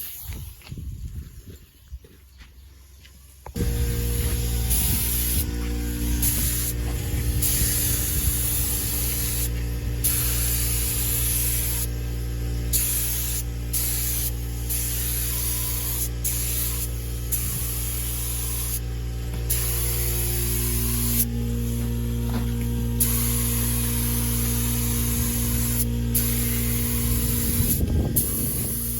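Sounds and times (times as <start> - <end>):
air compressor humming: 2.8 - 28.9
paint spray gun hissing: 3.6 - 21.8, 22.9 - 28.9.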